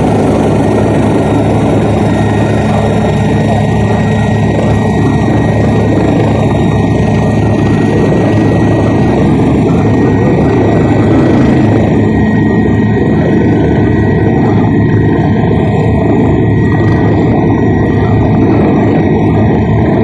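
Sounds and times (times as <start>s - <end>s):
faint high whine: 0.0s - 20.0s
helicopter rotor and engine: 0.0s - 20.0s.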